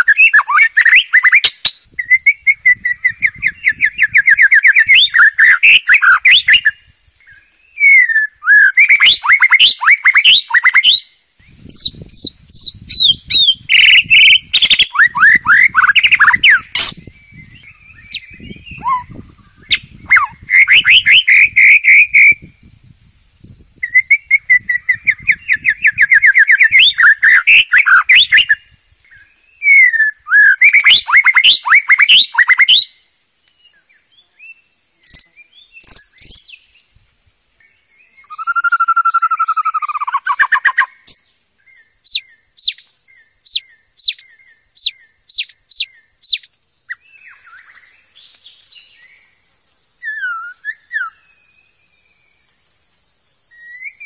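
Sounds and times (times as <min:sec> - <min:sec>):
bird singing trills and whistles: 0:00.0 - 0:36.9, 0:37.6 - 0:52.6, 0:53.4 - 0:54.0.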